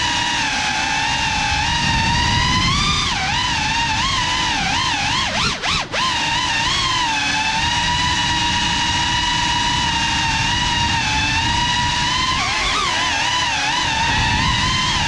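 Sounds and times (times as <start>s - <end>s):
rushing airflow: 0.0s - 5.2s, 6.2s - 15.0s
drone propellers whining: 0.0s - 15.0s.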